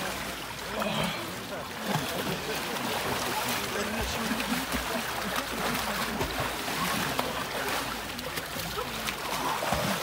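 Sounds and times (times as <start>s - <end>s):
crowd chatter: 0.0s - 10.0s
water splashing and sloshing: 0.0s - 10.0s.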